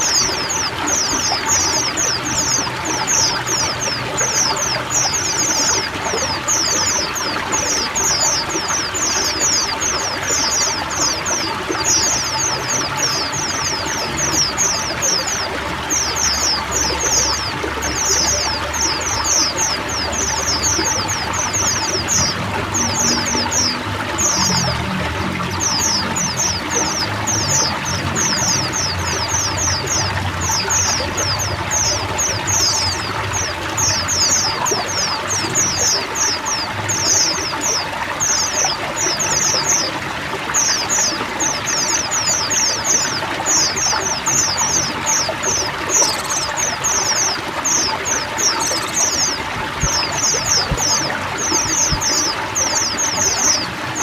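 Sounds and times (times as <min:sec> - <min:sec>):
flock of birds chirping: 0:00.0 - 0:54.0
running water: 0:00.0 - 0:54.0.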